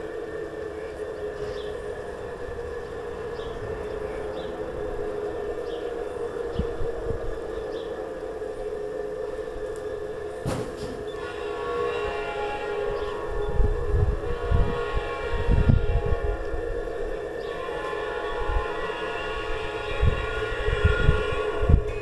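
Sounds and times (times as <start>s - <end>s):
model train running on track: 0.0s - 22.0s.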